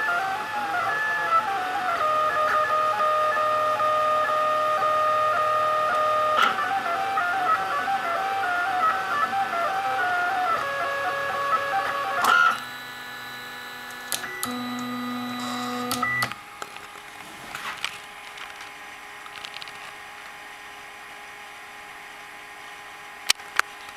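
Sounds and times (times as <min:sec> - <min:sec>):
stepper motors whining: 0:00.0 - 0:20.4
faint steady hum: 0:00.0 - 0:23.9.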